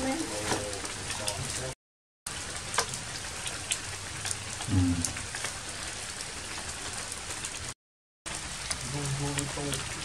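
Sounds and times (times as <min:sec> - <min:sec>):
rain pattering on foliage: 0:00.0 - 0:10.0
water drips ticking: 0:00.0 - 0:10.0.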